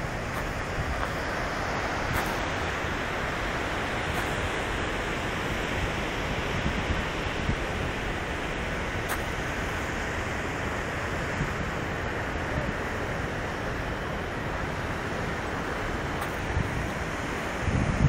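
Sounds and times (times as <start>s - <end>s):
ocean surf breaking on beach: 0.0s - 18.0s
wind rumbling on microphone: 0.0s - 18.0s.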